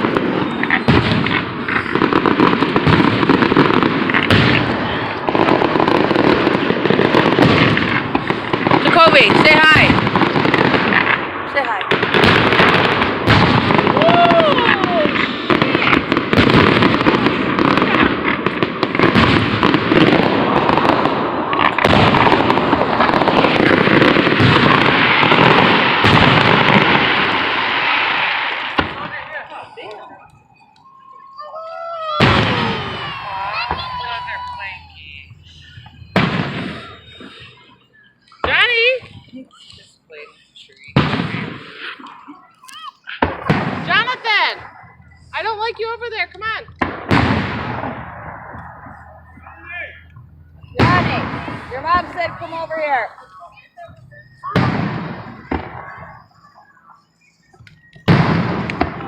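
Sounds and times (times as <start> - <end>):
sharp firework bangs: 0.0 - 30.9, 32.0 - 59.0
fireworks crackling and popping: 0.0 - 59.0.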